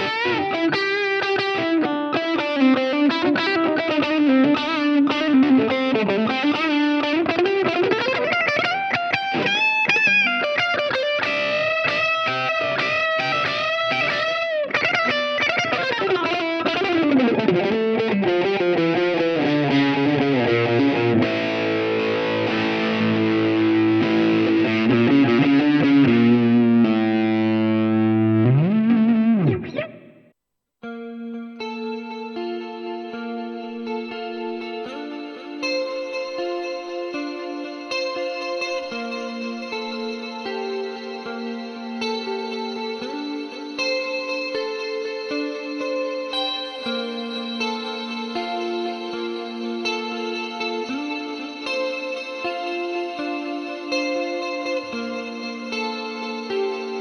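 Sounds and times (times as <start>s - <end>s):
distorted electric guitar: 0.0s - 57.0s.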